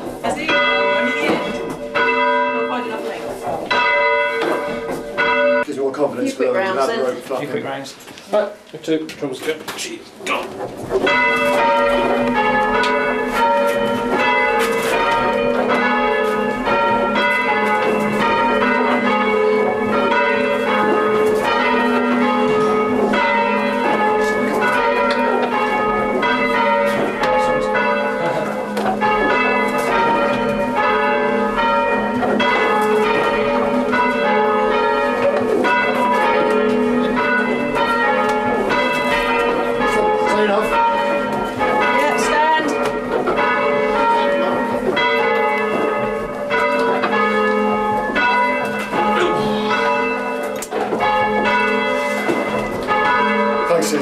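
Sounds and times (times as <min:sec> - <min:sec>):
church bells ringing: 0:00.0 - 0:07.8, 0:10.9 - 0:54.0.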